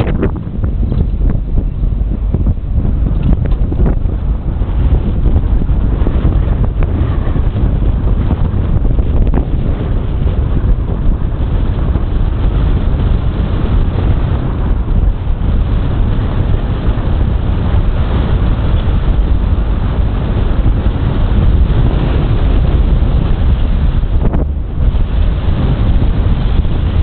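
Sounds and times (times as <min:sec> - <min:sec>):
water rushing past hull: 0:00.0 - 0:27.0
wind buffeting microphone: 0:00.0 - 0:27.0.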